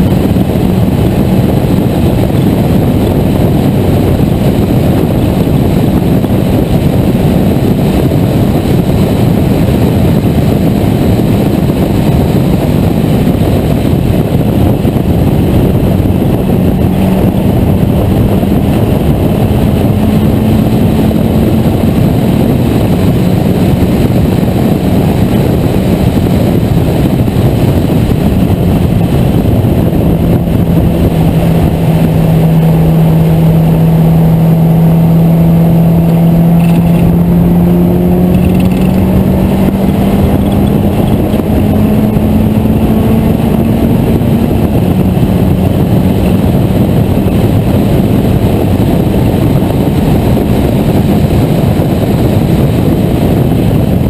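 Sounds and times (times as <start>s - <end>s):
race car engine running hard: 0.0s - 54.0s
road noise: 0.0s - 54.0s
rush of wind: 0.0s - 54.0s.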